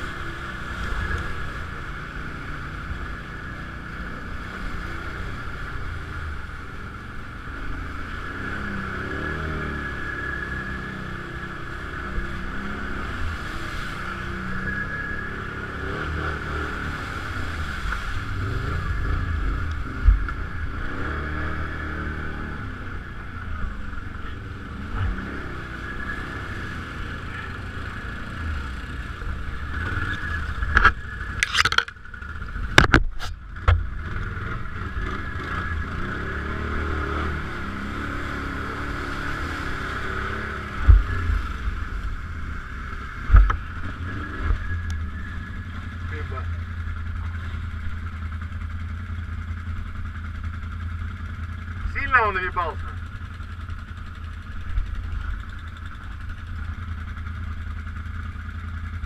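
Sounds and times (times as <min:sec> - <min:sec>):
drive whine: 0:00.0 - 0:59.0
quad bike engine revving: 0:00.0 - 0:59.0.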